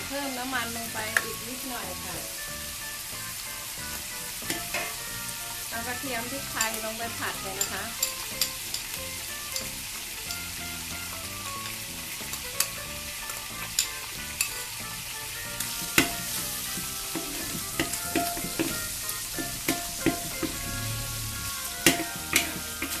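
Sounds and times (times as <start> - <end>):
food sizzling in hot oil: 0.0 - 23.0
spatula scraping and tapping wok: 1.0 - 23.0.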